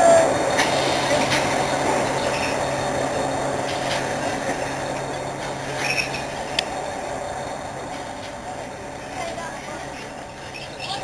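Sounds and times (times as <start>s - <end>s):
diesel train engine droning: 0.0s - 11.0s
train wheels clicking: 0.0s - 11.0s.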